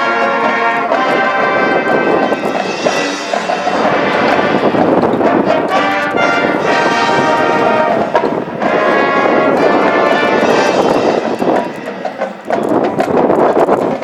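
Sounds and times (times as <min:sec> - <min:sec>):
marching band brass chords: 0:00.0 - 0:14.0.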